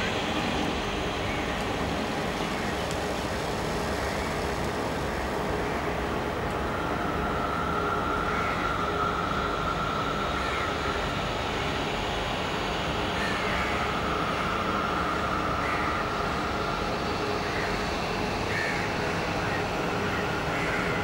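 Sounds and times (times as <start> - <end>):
steady mechanical rumble: 0.0 - 21.0
thin high whine: 0.0 - 21.0.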